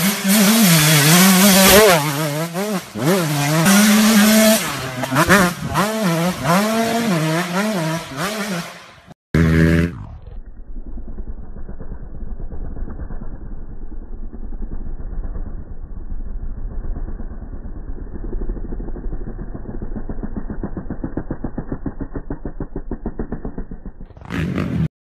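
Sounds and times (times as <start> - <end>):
dirt bike engine running: 0.0 - 24.9.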